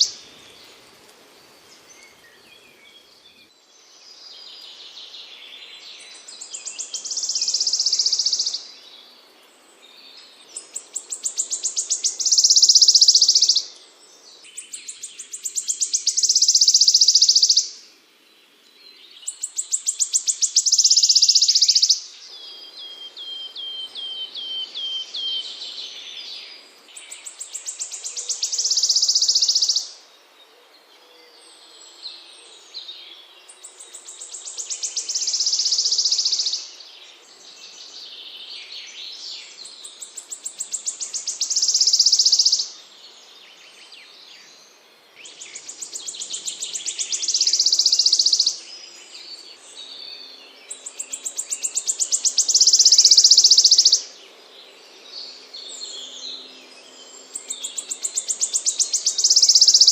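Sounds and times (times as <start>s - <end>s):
faint bird chirps: 0.0s - 0.8s, 1.6s - 17.8s, 18.8s - 54.2s, 54.8s - 59.9s
songbird buzzy trill song: 0.0s - 59.9s.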